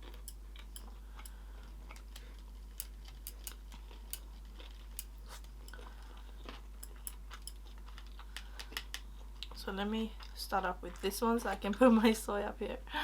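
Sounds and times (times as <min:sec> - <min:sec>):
soft chewing: 0:00.0 - 0:11.9
low steady hum: 0:00.0 - 0:13.0.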